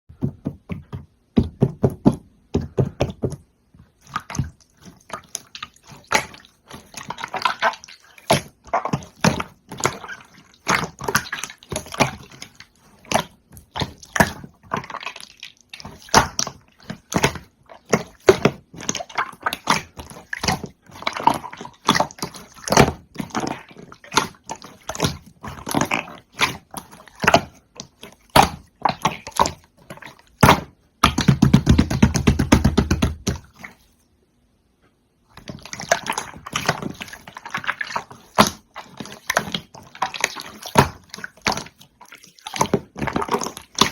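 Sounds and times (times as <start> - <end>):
slime squished by hand: 4.0 - 33.9, 35.4 - 43.9.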